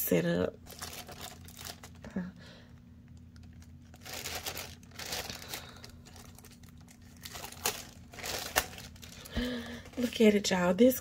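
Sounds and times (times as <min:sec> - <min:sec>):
plastic sleeve crinkling: 0:00.6 - 0:02.3, 0:03.0 - 0:10.5.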